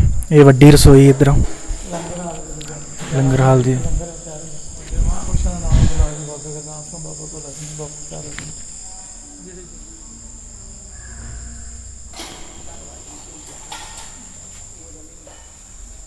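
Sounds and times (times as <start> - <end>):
insects trilling: 0.0 - 16.0
faint background voices: 1.4 - 16.0.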